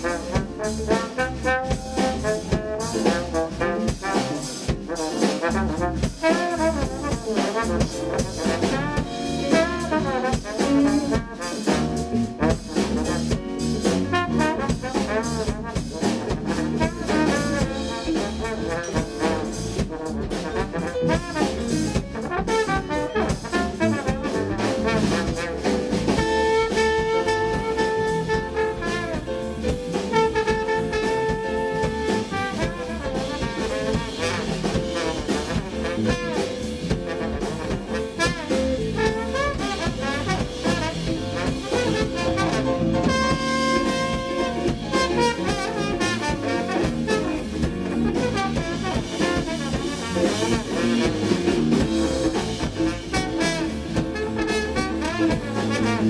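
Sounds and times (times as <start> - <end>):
horn section long notes: 0.0 - 56.0
jazz-funk band playing: 0.0 - 56.0.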